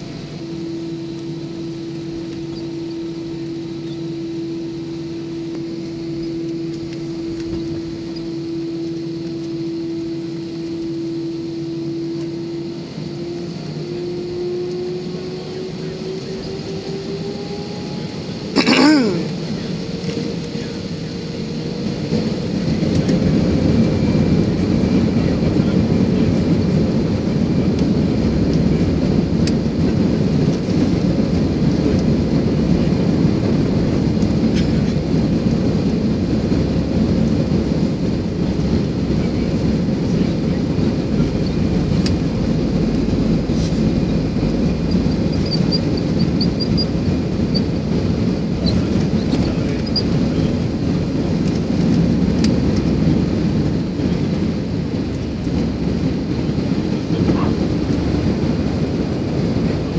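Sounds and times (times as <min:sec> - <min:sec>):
jet engines roaring: 0:00.0 - 0:59.9
runway rumble: 0:00.0 - 0:59.9.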